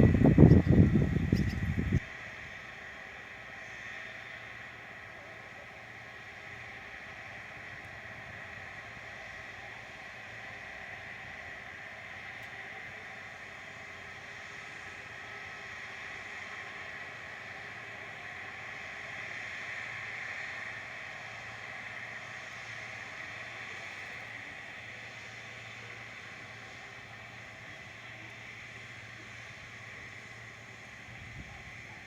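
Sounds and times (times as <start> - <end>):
distant jet engines whining: 0.0 - 32.0.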